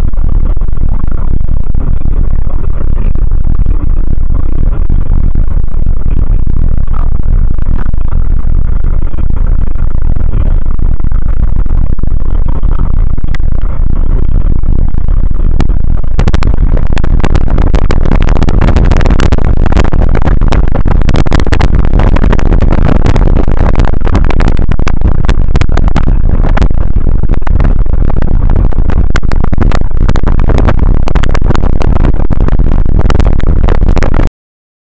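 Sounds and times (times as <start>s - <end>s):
wind buffeting microphone: 0.0s - 34.3s.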